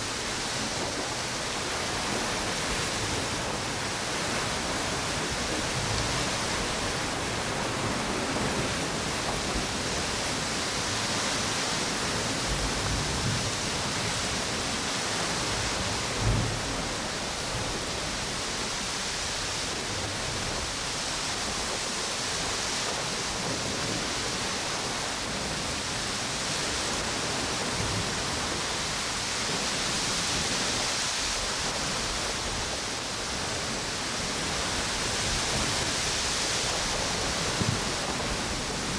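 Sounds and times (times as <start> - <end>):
ocean waves on beach: 0.0 - 38.9
wind: 0.0 - 38.9.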